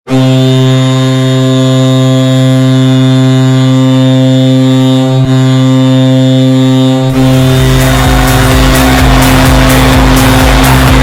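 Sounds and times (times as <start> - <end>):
hockey goal horn blast: 0.1 - 11.0.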